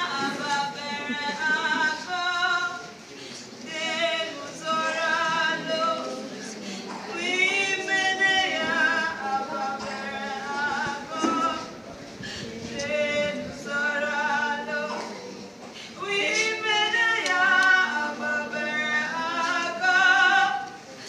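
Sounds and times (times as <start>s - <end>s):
voices singing unaccompanied: 0.0s - 21.0s.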